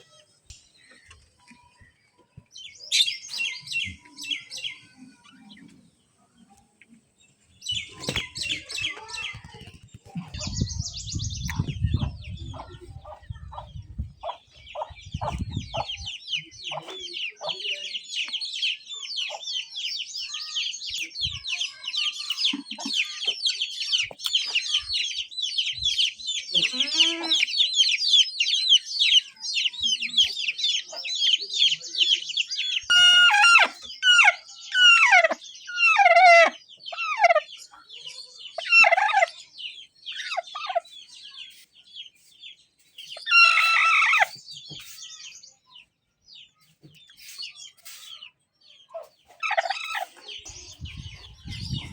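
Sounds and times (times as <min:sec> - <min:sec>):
chickens peeping and chirping: 0:00.0 - 0:51.9.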